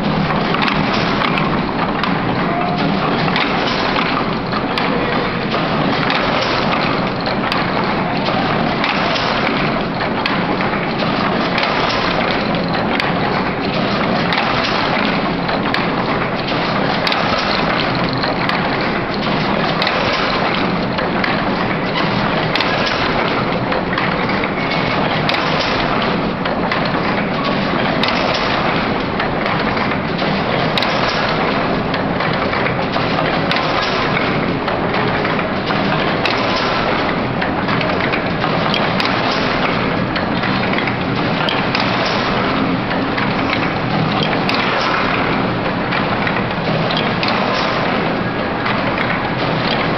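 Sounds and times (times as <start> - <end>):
heavy mechanical beat: 0.0 - 49.9
machine clattering: 0.0 - 49.9.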